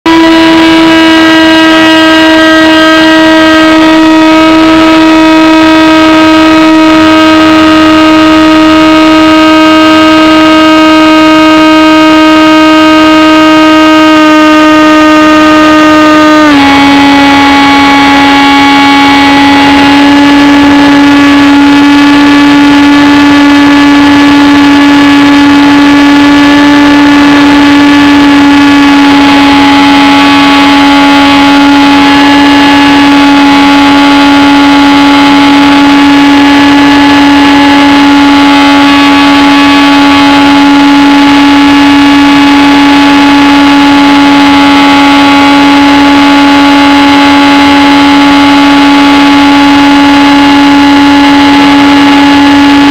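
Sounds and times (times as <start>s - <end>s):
electric motor and propeller whine: 0.1s - 52.9s.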